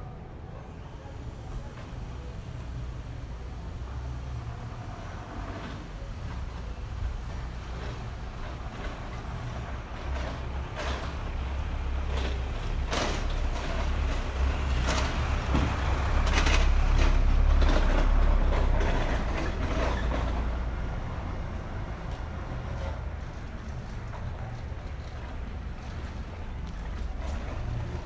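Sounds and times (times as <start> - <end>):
vehicle engine rumble passing: 0.0 - 28.0.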